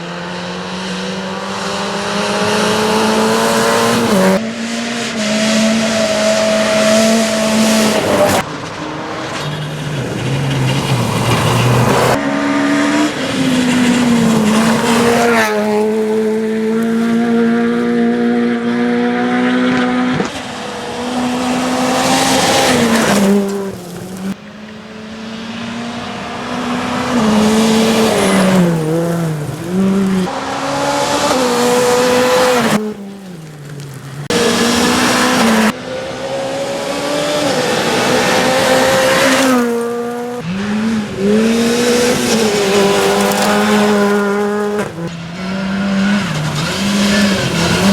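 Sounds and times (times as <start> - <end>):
rally car engine at full throttle: 0.0 - 47.9.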